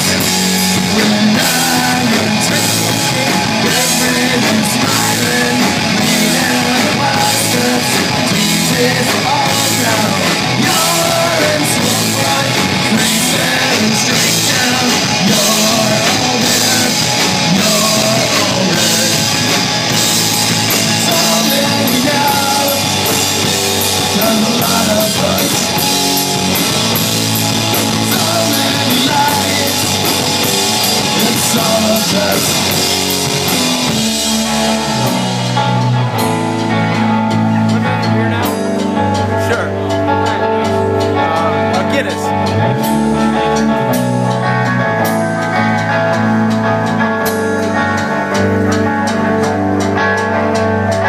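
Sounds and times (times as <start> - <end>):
bass guitar: 0.0 - 51.0
distorted electric guitar: 0.0 - 51.0
drum kit: 0.0 - 51.0
person singing lead vocal: 0.0 - 51.0.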